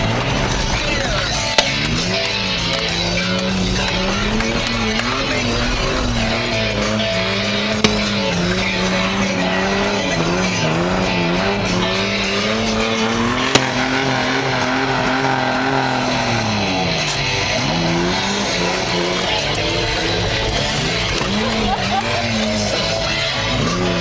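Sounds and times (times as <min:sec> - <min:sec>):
pickup engine at high revs: 0:00.0 - 0:24.0.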